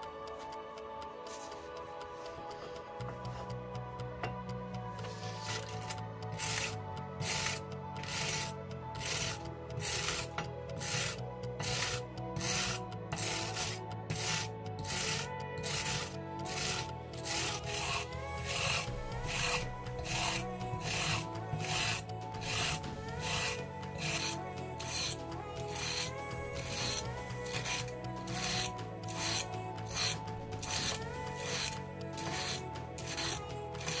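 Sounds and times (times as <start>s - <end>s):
wire brush scrubbing rusty iron: 5.0s - 34.0s.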